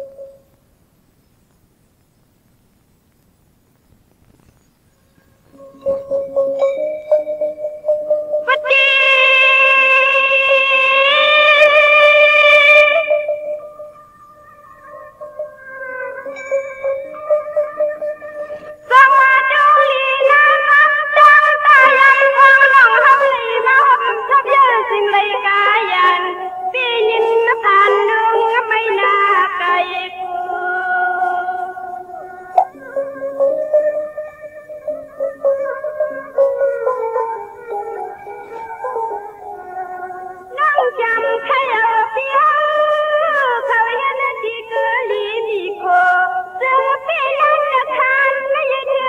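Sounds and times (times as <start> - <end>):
instrumental accompaniment: 5.1 - 49.0
woman singing: 8.4 - 14.0, 14.8 - 49.0.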